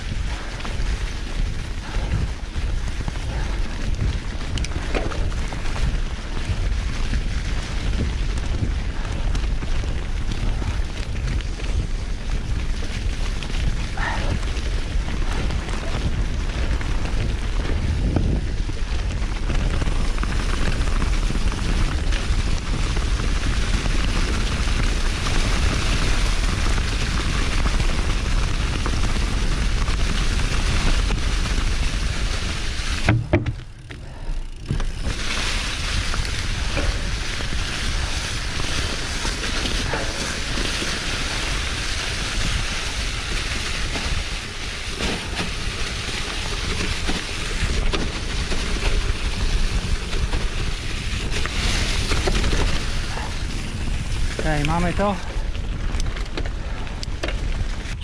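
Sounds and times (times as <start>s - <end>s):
bike tyre noise: 0.0s - 58.0s
wind rumbling on microphone: 0.0s - 58.0s.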